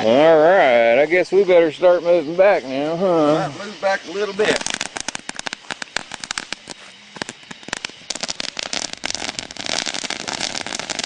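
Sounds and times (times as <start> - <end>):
bottle rockets crackling and hissing: 1.0 - 11.0.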